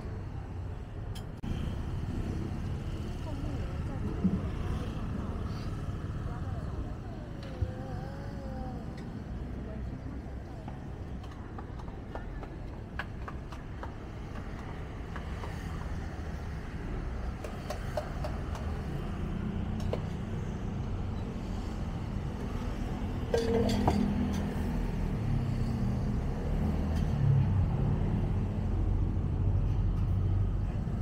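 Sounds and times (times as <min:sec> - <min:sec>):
low rumble of street traffic: 0:00.0 - 0:31.0.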